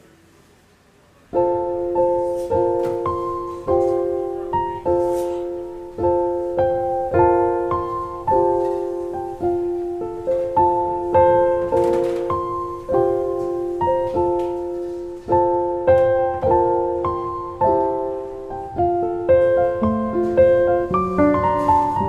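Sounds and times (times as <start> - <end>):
gentle solo piano: 1.2 - 22.0.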